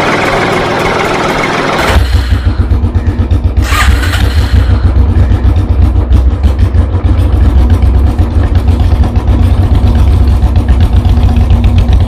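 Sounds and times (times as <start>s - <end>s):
loud engine idling: 0.0s - 12.0s.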